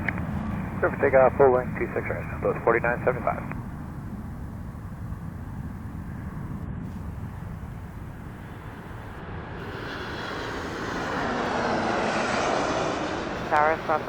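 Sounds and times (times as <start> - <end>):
jet engine whine: 0.0 - 14.0
low rumble: 0.0 - 14.0.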